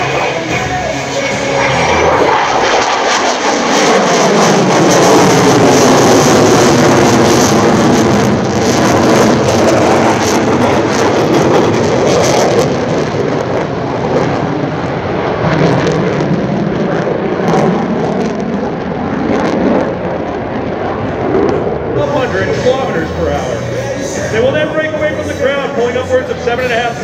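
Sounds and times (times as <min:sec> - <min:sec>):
jet flying overhead: 0:00.0 - 0:27.0.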